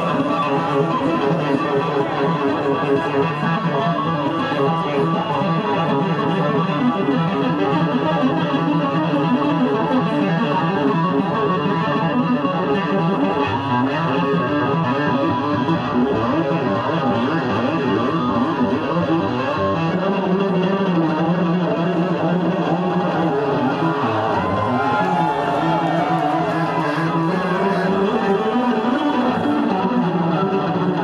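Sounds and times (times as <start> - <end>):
electric bass guitar solo: 0.0 - 31.0.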